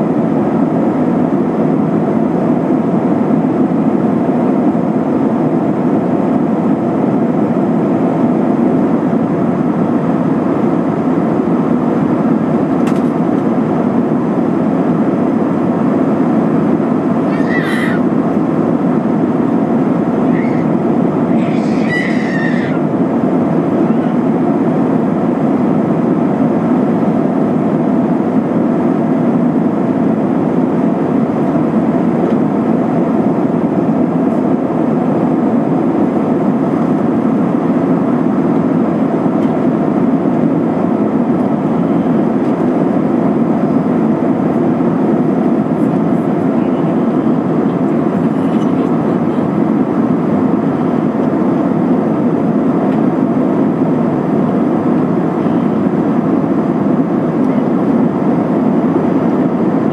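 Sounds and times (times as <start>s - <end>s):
airliner cabin engine and airflow noise: 0.0s - 59.9s.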